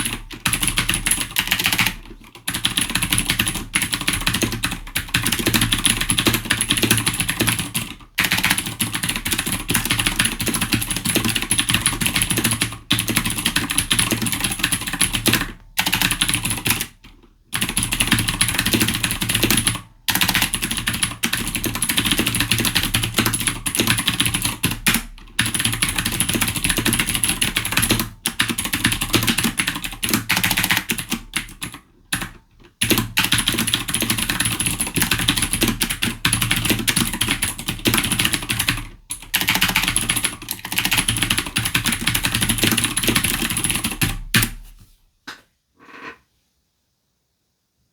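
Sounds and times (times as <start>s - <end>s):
fast mechanical keyboard typing: 0.0s - 44.6s.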